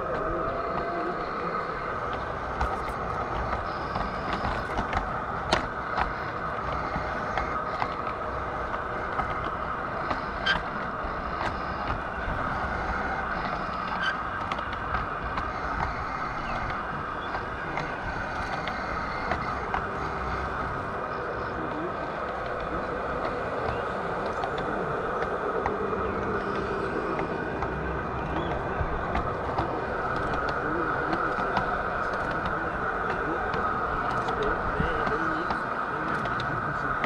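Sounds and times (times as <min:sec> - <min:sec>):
model train running on track: 0:00.0 - 0:37.0.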